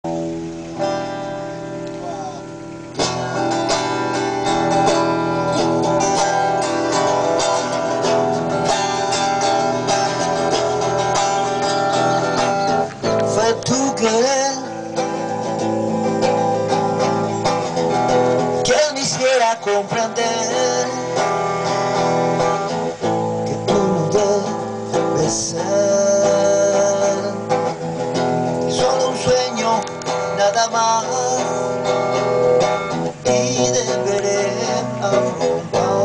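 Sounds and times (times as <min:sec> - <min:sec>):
guitar strumming chords: 0:00.0 - 0:36.0.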